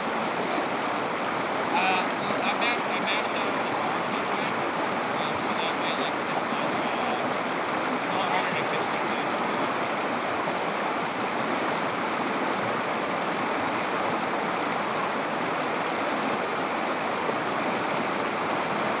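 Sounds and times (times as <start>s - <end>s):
river flowing over rocks: 0.0s - 19.0s.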